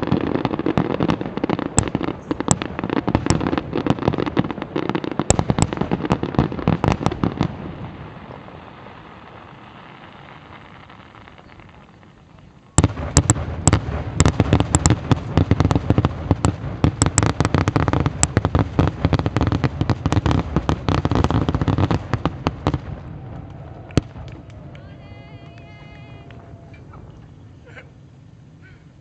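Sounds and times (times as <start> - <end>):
fireworks bangs and crackles: 0.0 - 28.6
fireworks rumble: 0.0 - 29.0.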